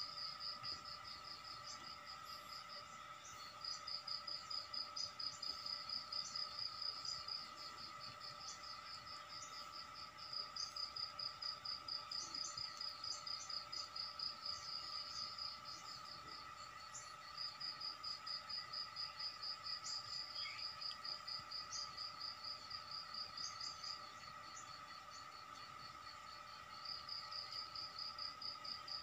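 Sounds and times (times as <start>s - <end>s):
insect chirping: 0.0s - 29.0s
steady high hum: 0.0s - 29.0s.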